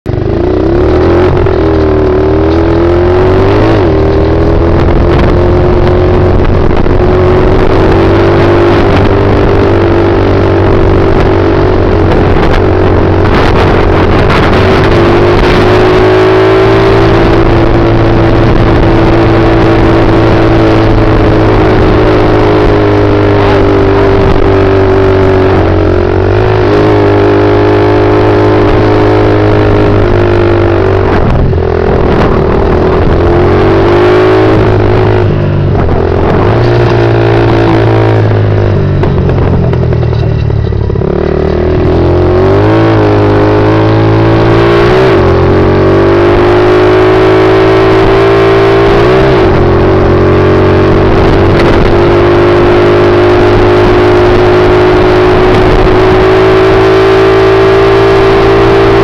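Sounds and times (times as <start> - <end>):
motorbike engine running: 0.1 - 59.0.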